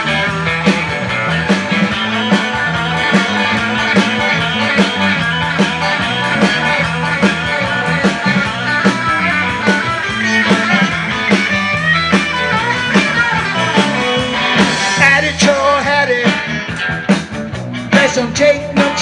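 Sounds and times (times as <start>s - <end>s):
bass: 0.0s - 19.0s
electric guitar: 0.0s - 19.0s
steady drum beat: 0.0s - 19.0s.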